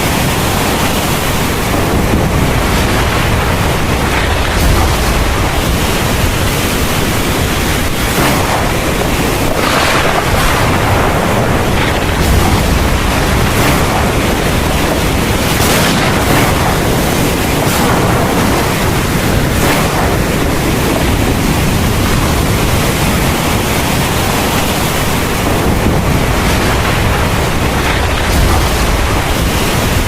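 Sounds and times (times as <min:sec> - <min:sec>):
heavy rain pouring: 0:00.0 - 0:30.0
deep low rumble: 0:01.7 - 0:08.6, 0:09.5 - 0:23.6, 0:25.4 - 0:30.0.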